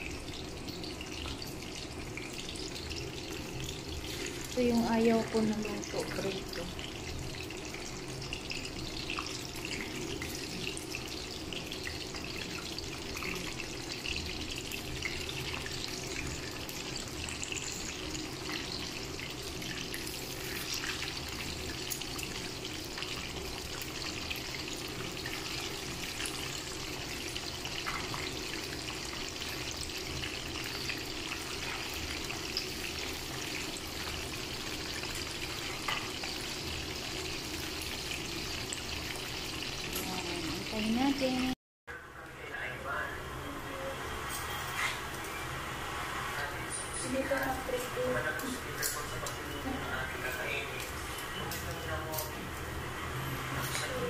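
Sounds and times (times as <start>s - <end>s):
fish sizzling in oil: 0.0s - 41.6s, 43.6s - 54.0s.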